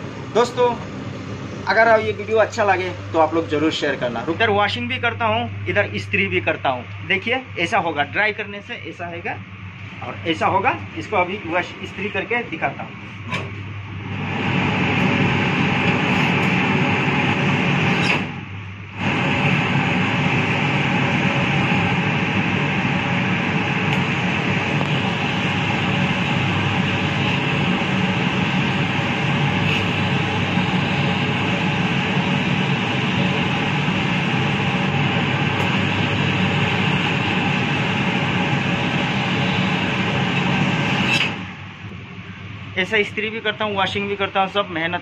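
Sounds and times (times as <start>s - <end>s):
suction blower droning: 0.0s - 43.2s.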